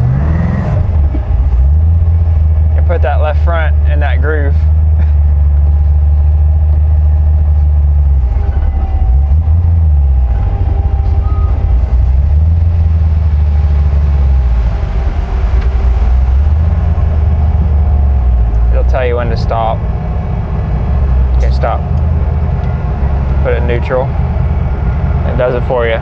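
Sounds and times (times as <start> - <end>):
car engine idling loudly: 0.8 - 26.0.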